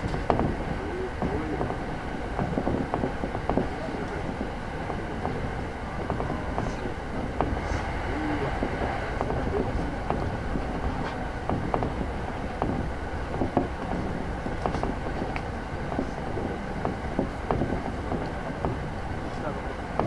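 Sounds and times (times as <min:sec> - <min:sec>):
wheels rumbling on rail: 0:00.0 - 0:20.0.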